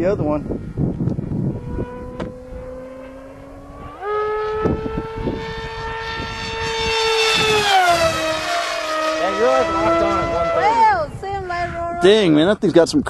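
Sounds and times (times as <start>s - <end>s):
electric motor and propeller whine: 0.0s - 12.0s.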